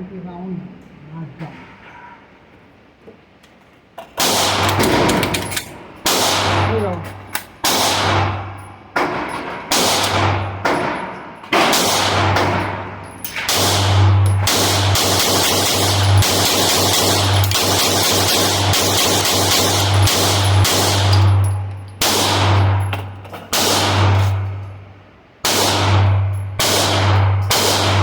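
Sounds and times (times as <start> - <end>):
pistol shots echoing: 4.2 - 24.8, 25.4 - 28.0.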